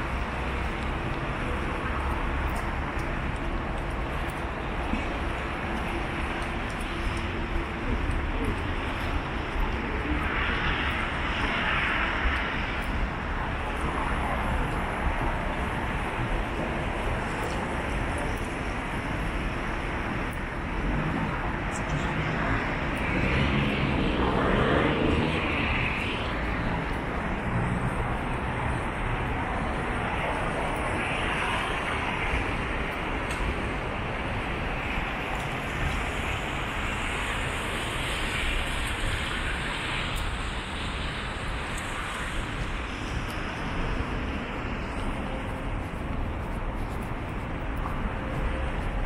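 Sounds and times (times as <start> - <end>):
road traffic noise: 0.0 - 49.0.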